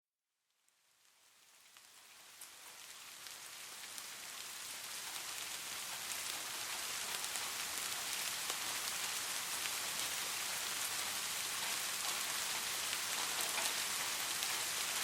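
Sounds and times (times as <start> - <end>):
raindrops pattering on a surface: 0.7 - 15.0
steady rainfall: 0.8 - 15.0.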